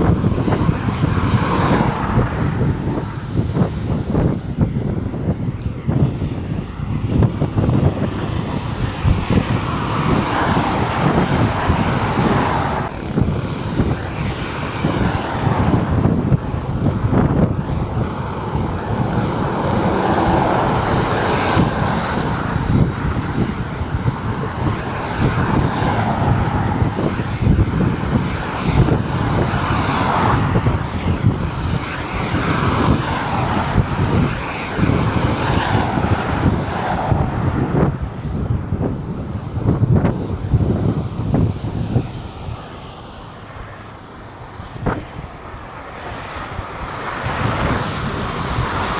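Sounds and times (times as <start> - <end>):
road traffic roar: 0.0 - 48.9
wind buffeting microphone: 0.0 - 48.9.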